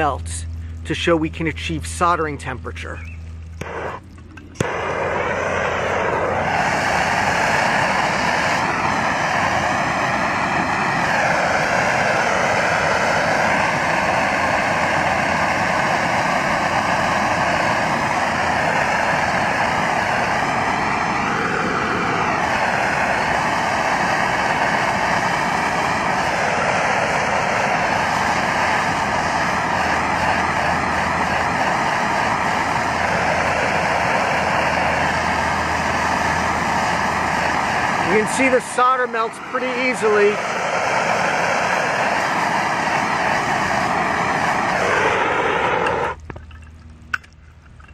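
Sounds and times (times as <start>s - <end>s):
gas torch burning: 0.0s - 47.9s.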